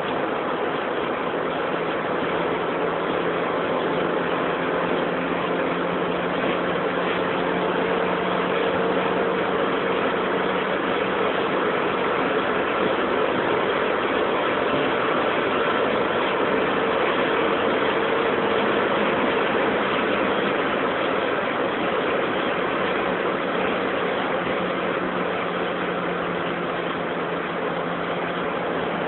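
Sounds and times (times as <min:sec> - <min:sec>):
car engine running hard: 0:00.0 - 0:29.0
road noise: 0:00.0 - 0:29.0
wind noise: 0:00.0 - 0:29.0.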